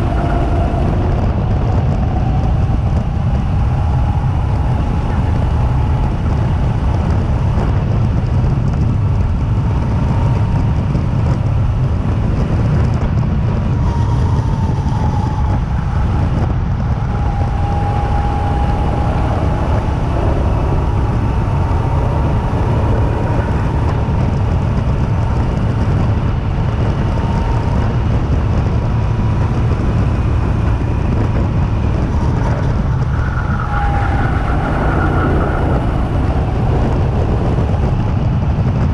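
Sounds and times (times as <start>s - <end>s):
go-kart motor rumble and whine: 0.0s - 38.9s
wind on microphone: 0.0s - 38.9s.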